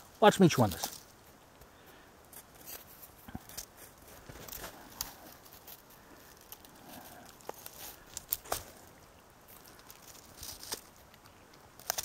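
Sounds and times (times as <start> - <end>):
dogs chewing wood: 2.4 - 12.0.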